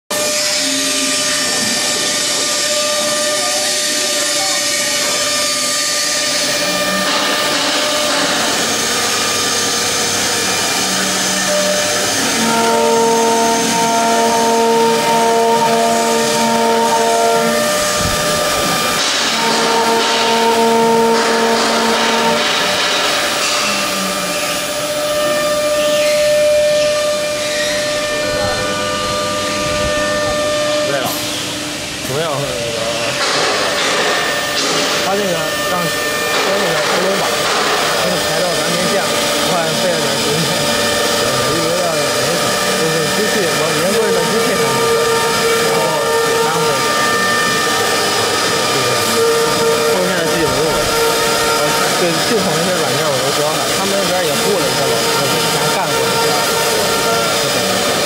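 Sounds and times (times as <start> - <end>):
wood router spindle whine: 0.1 - 58.0.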